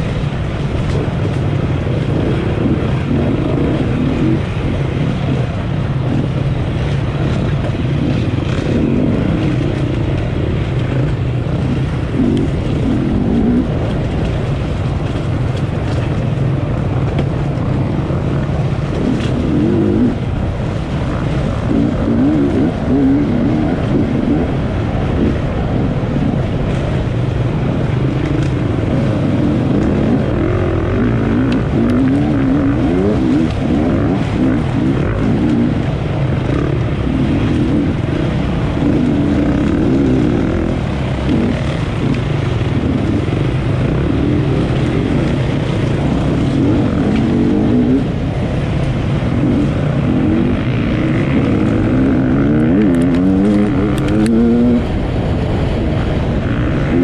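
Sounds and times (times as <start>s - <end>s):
motorcycle engine revving: 0.0s - 57.0s
steady rushing noise: 0.0s - 57.0s.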